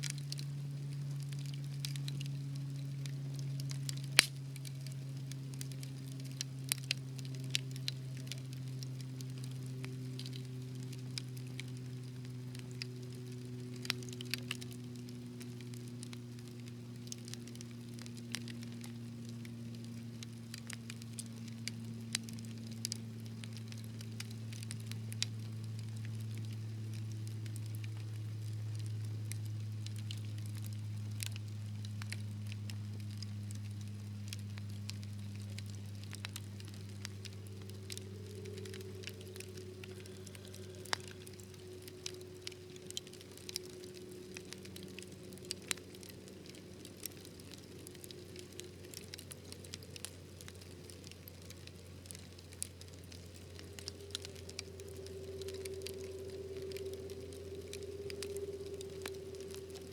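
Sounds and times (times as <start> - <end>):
low hum: 0.0 - 59.9
wood fire crackling: 0.0 - 59.9.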